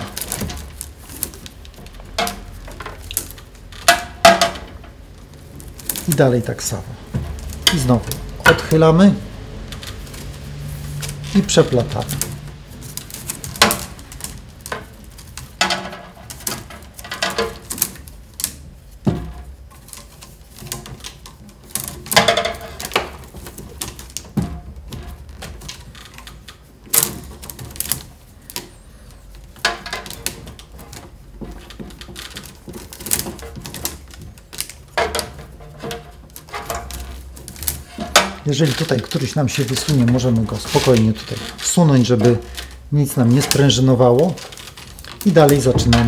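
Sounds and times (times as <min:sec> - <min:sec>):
willow rods clicking and creaking: 0:00.0 - 0:46.0.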